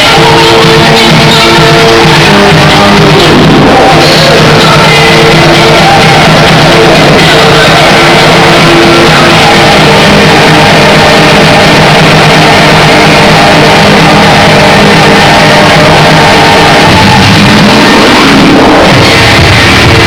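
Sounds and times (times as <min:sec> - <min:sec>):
loud distorted music: 0:00.0 - 0:20.0.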